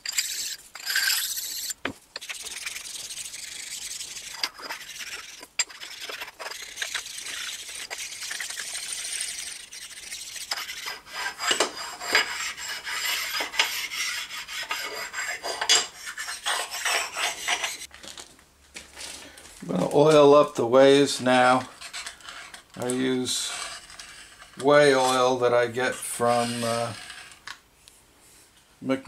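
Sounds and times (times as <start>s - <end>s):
stone scraping on metal: 0.0s - 17.9s, 21.4s - 27.4s.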